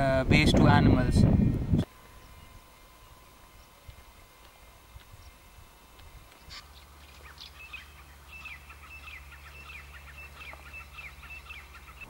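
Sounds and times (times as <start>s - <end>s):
low steady hum: 0.0s - 12.0s
birds calling: 1.8s - 12.0s.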